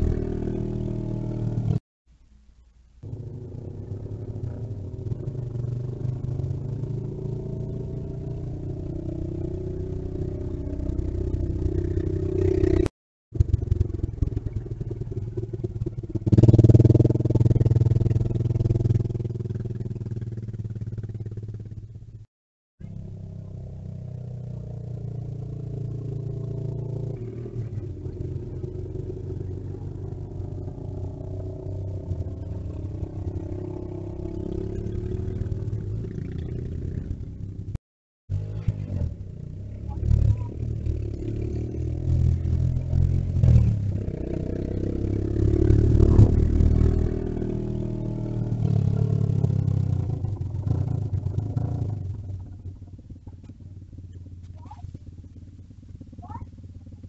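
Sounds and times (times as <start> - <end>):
motor vehicle engine running: 3.0 - 22.2, 22.8 - 57.0.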